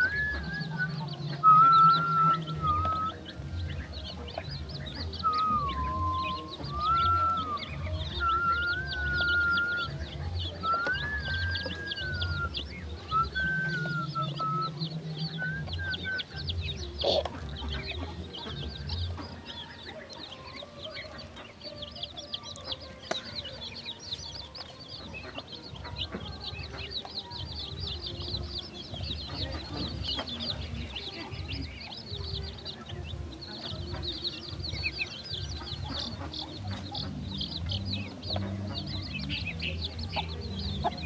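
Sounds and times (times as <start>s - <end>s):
chickens clucking: 0.0s - 41.0s
chicks peeping: 0.0s - 41.0s.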